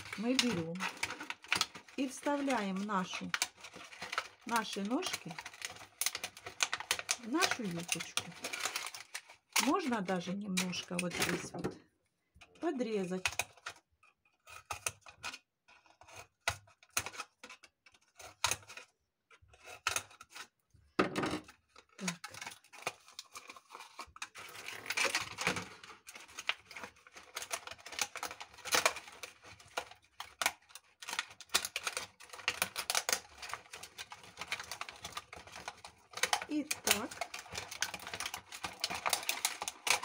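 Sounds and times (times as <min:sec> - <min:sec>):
plastic bottle pieces crackling: 0:00.0 - 0:11.8, 0:14.4 - 0:40.0.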